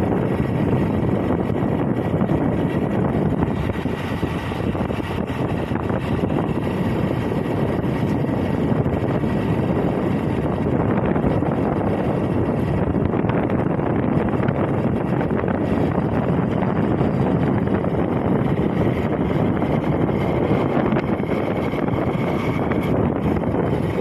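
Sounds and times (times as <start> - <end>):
motorcycle engine rumble: 0.0 - 24.0
wind rushing over microphone: 0.0 - 24.0.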